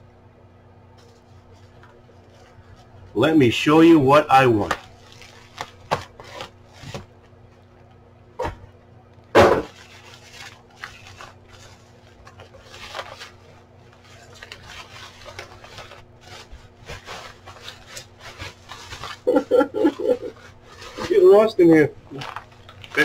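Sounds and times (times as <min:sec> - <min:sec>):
bubble wrap rustling and crinkling: 0:01.0 - 0:07.8, 0:09.6 - 0:23.0.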